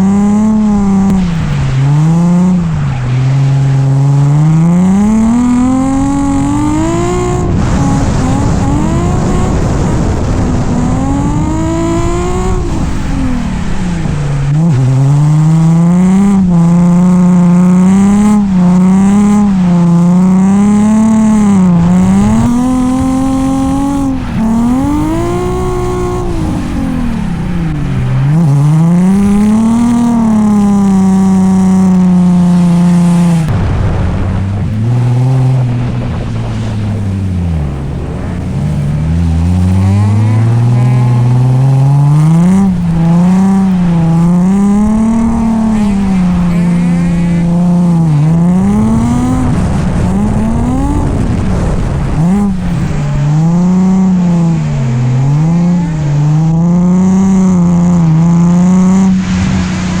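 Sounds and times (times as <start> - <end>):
car engine revving hard: 0.0 - 60.0.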